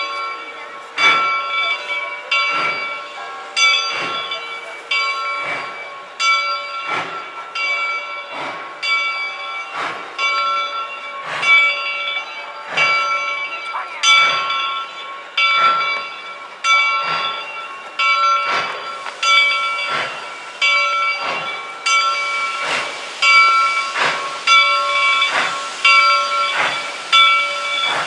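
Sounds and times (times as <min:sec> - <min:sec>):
locomotive bell ringing: 0:00.0 - 0:28.0
steam puffs hissing: 0:00.0 - 0:28.0.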